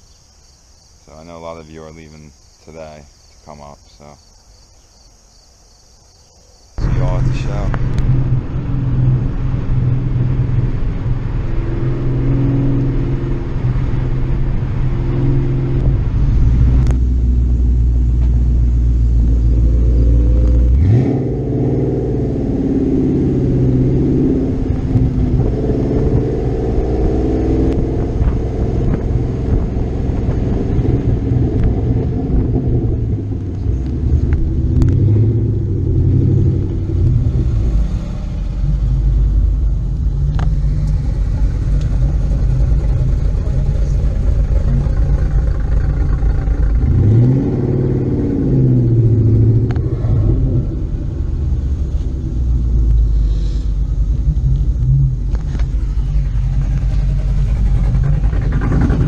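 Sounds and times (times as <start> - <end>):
car engine accelerating: 6.8 - 59.0.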